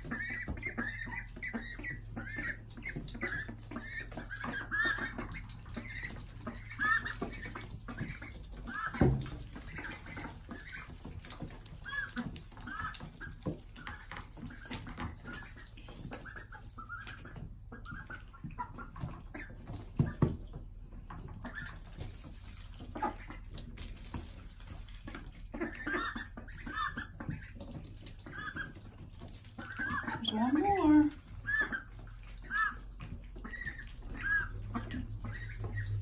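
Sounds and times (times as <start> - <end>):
ducklings peeping: 0.0 - 36.0.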